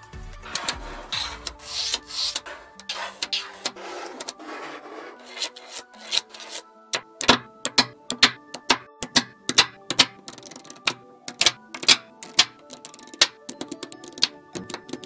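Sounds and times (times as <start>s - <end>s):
magnetic balls clicking: 0.4s - 4.4s, 5.3s - 15.0s.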